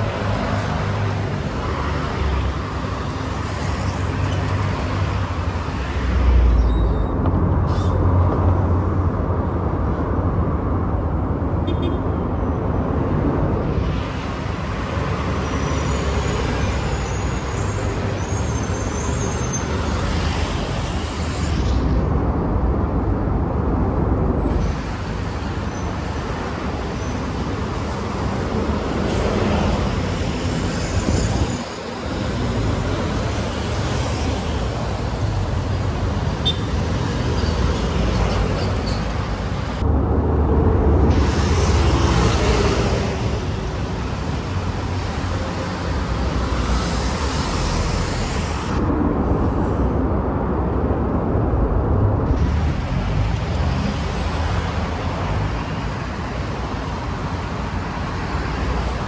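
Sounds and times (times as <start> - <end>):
diesel buses passing: 0.0 - 59.0
traffic noise: 0.0 - 59.0.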